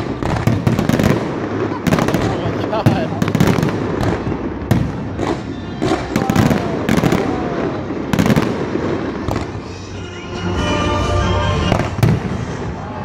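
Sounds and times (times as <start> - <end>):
fireworks bangs: 0.0 - 10.2, 11.5 - 13.0.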